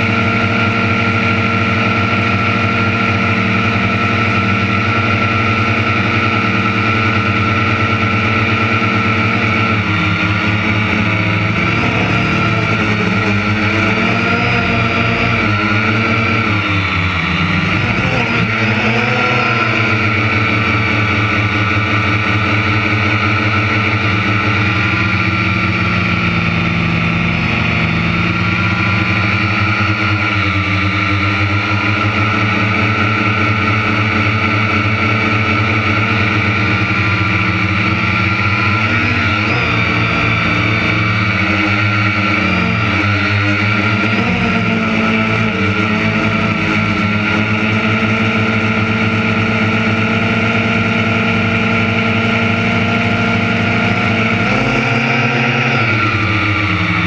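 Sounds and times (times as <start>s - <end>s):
farm machinery engine running: 0.0s - 57.0s.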